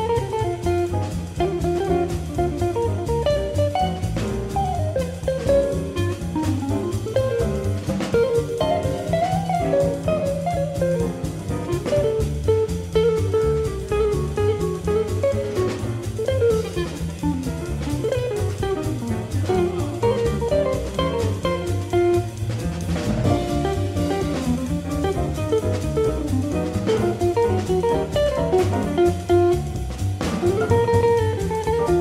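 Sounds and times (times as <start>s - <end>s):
drum kit: 0.0s - 32.0s
jazz combo playing: 0.0s - 32.0s
upright bass: 0.0s - 32.0s.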